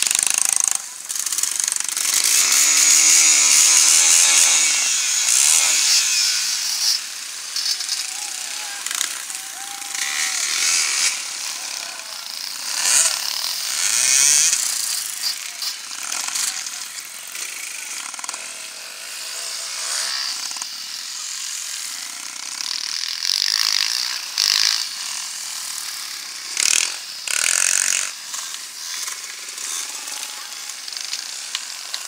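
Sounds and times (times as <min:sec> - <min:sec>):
motorcycle engines buzzing and revving: 0:00.0 - 0:32.0.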